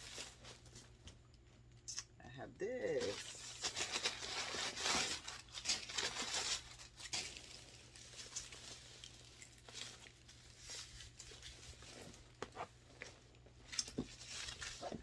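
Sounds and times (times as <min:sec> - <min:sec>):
packaging rustling and crinkling: 0:00.0 - 0:01.2, 0:02.9 - 0:15.0.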